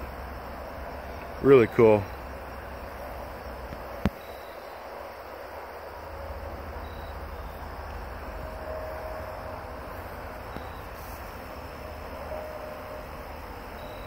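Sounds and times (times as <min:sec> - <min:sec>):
honey bees buzzing: 0:00.0 - 0:14.0
steady low rumble: 0:00.0 - 0:14.0.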